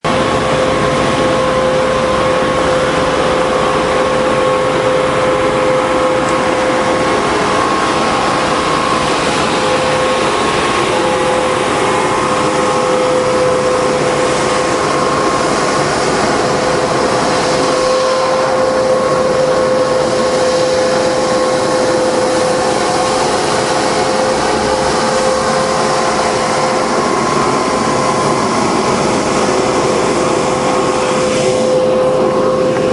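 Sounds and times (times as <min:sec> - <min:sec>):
road sweeper running: 0:00.0 - 0:32.9.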